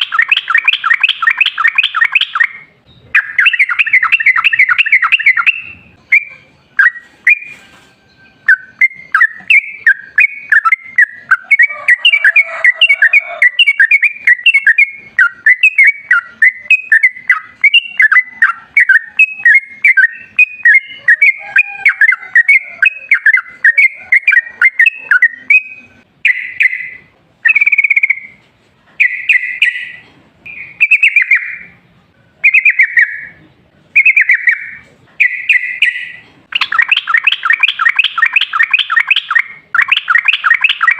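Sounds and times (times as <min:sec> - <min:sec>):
bird singing chirping notes: 0:00.0 - 0:28.4, 0:29.0 - 0:31.8, 0:32.4 - 0:40.9.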